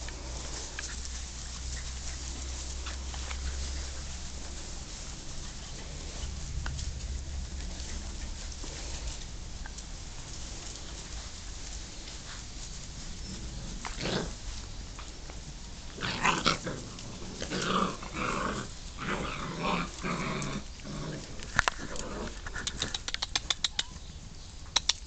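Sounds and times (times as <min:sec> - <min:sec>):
puppies growling: 0:00.0 - 0:15.1, 0:15.8 - 0:24.0.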